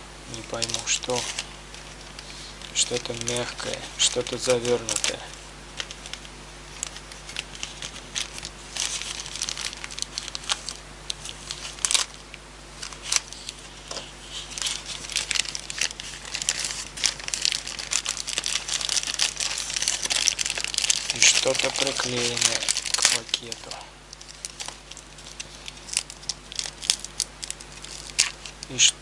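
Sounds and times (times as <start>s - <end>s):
plastic bag crinkling: 0.3s - 28.9s.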